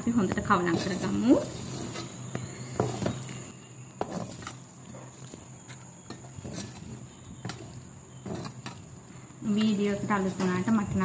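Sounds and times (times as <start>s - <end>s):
spatula scraping metal pan: 0.1s - 5.4s, 6.0s - 11.0s.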